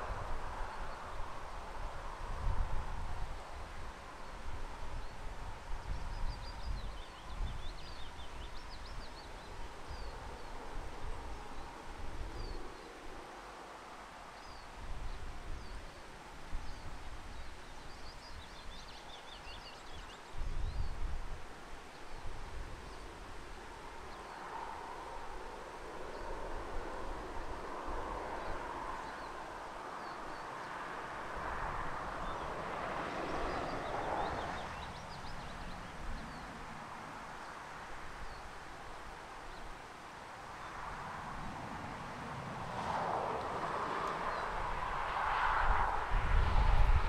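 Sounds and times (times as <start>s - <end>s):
wind gusting: 0.0s - 47.0s.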